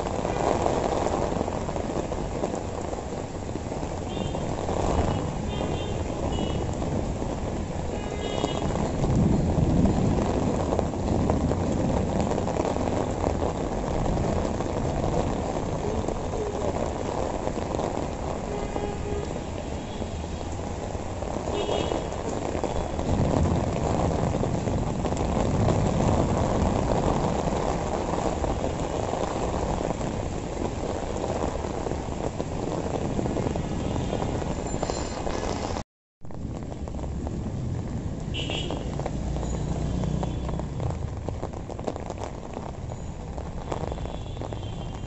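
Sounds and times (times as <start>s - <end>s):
heavy rain on a street: 0.0s - 45.0s.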